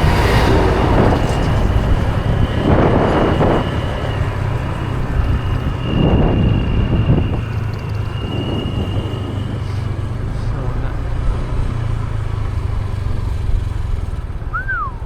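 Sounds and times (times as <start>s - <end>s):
motorbike engine running: 0.0s - 15.0s
wind rushing over microphone: 0.0s - 15.0s.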